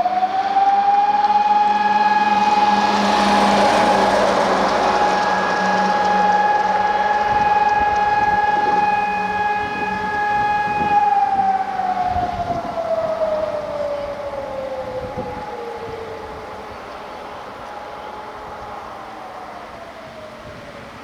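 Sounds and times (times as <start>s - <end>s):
alarm siren winding down: 0.0s - 21.0s.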